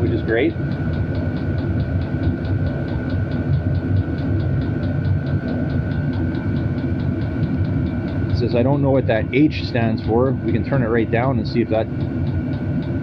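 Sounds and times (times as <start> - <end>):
fan whine: 0.0 - 13.0
fuel pump ticking: 0.0 - 13.0
heater combustion rumble: 0.0 - 13.0.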